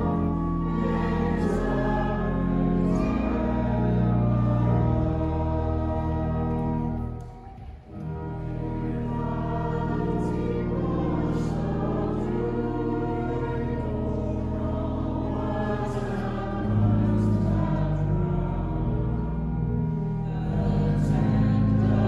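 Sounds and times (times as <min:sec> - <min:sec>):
organ chords: 0:00.0 - 0:22.0
voices singing a hymn: 0:00.0 - 0:22.0.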